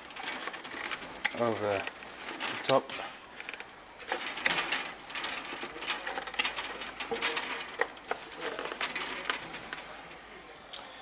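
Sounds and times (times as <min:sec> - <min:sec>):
metal plate scraping and clicking: 0:00.0 - 0:10.2.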